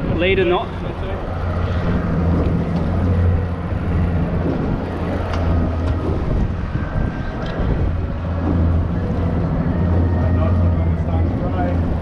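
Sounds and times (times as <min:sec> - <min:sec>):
boat engine humming: 0:00.0 - 0:12.0
wind noise on microphone: 0:00.0 - 0:12.0.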